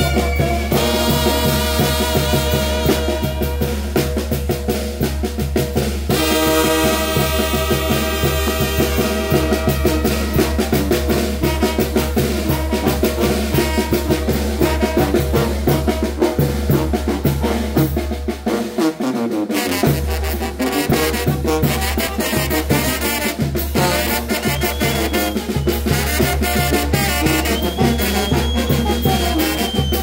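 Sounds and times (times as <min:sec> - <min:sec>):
brass band playing: 0:00.0 - 0:30.0
steady drum beat: 0:00.0 - 0:30.0
trombones: 0:00.0 - 0:30.0.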